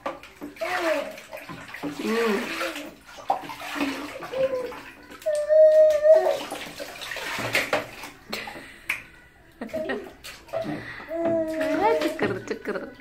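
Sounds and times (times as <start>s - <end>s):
water splashing and pouring: 0.0s - 8.6s, 9.6s - 13.0s.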